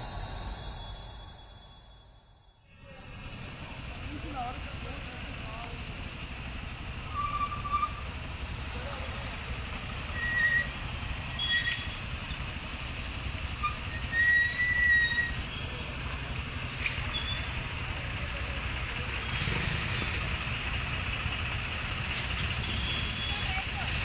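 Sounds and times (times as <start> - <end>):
traffic engines rumbling: 2.7 - 24.0.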